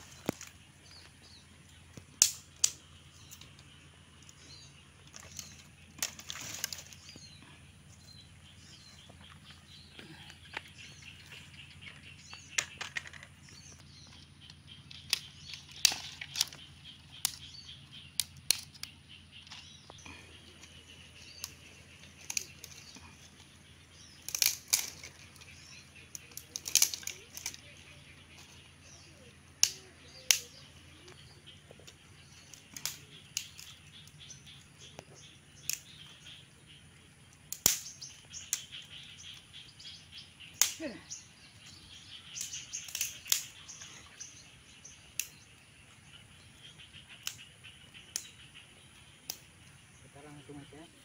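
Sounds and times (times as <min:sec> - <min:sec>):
twigs snapping and rustling: 0:00.0 - 0:07.5, 0:08.7 - 0:28.7, 0:29.5 - 0:36.4, 0:37.2 - 0:39.6, 0:40.4 - 0:40.8, 0:41.6 - 0:43.9, 0:45.0 - 0:46.0, 0:46.9 - 0:49.8.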